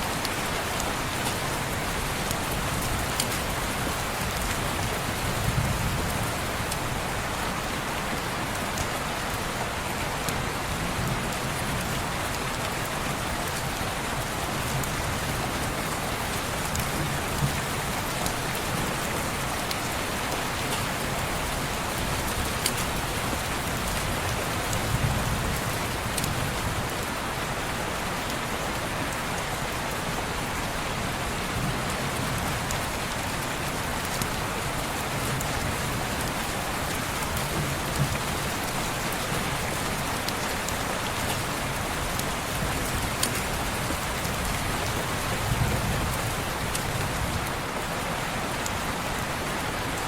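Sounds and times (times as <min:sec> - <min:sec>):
rain on window glass: 0:00.0 - 0:27.1, 0:28.2 - 0:50.0.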